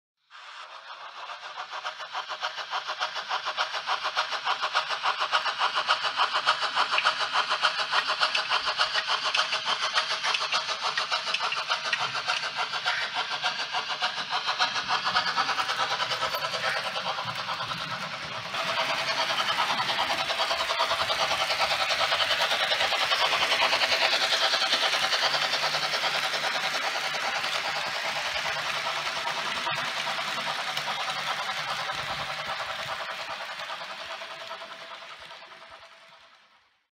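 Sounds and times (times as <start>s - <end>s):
model steam locomotive chuffing: 0.2s - 36.9s.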